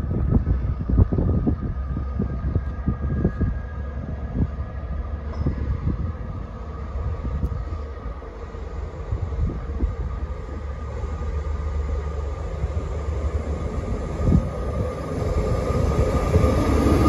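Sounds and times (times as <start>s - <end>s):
train engine rumble: 0.0s - 17.0s
wind buffeting microphone: 0.0s - 17.0s.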